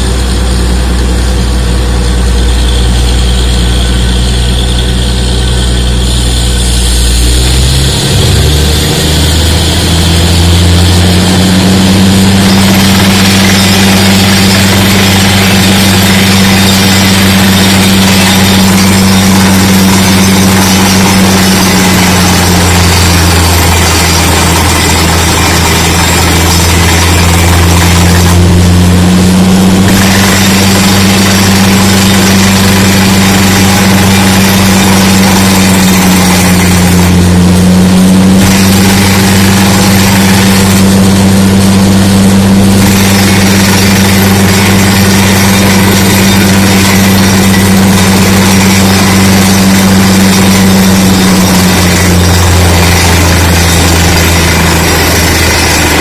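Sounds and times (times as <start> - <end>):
air blasting from borehole: 0.0 - 56.0
drilling rig engine drone: 0.0 - 56.0.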